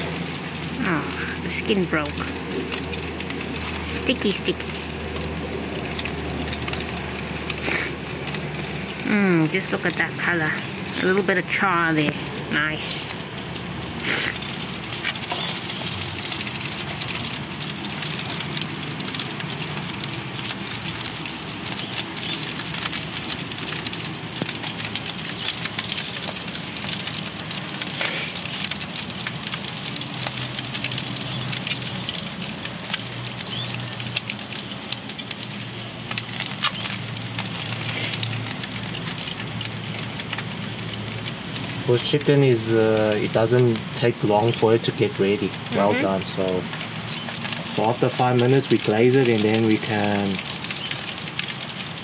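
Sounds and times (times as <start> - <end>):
low steady hum: 0.0 - 48.1
meat sizzling on grill: 0.0 - 52.0.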